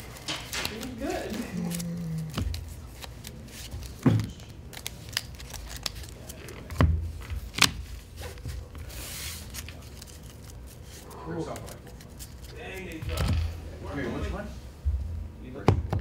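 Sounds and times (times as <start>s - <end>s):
cards rustling: 0.0s - 13.3s.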